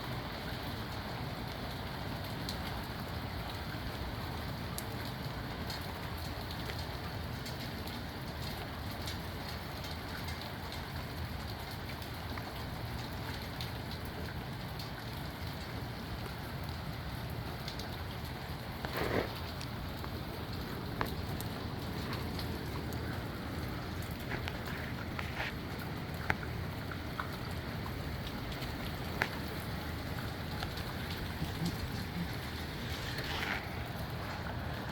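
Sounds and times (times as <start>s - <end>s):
heavy rain in strong wind: 0.0s - 34.9s.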